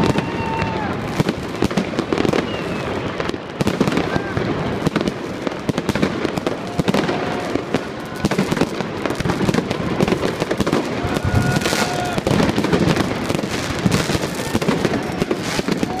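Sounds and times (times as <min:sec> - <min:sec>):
fireworks and firecrackers crackling: 0:00.0 - 0:16.0.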